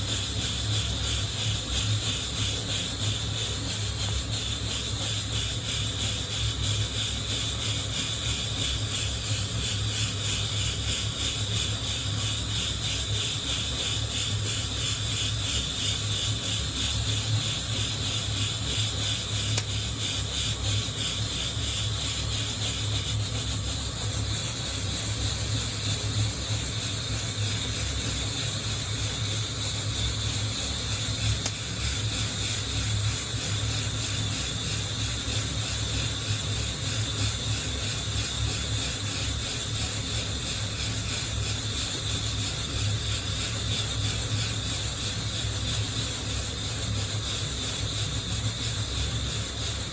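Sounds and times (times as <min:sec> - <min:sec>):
coffee beans rattling in roaster: 0:00.0 - 0:49.9.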